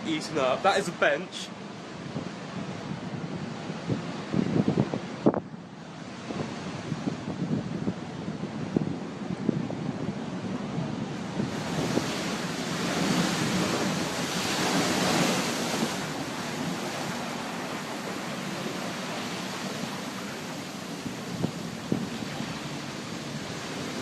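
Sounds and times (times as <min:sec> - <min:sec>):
sea surf breaking: 0:00.0 - 0:24.0
wind: 0:00.0 - 0:24.0.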